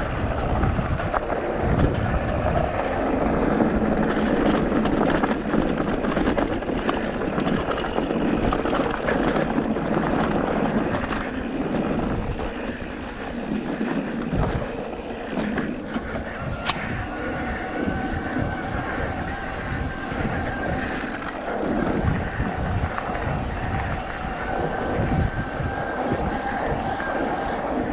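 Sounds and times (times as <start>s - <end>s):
vehicle rumbling and rattling on dirt: 0.0s - 24.8s.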